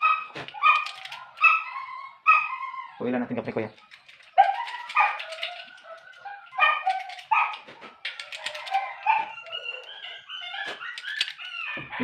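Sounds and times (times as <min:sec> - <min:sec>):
dog yelping and whining: 0:00.0 - 0:12.0.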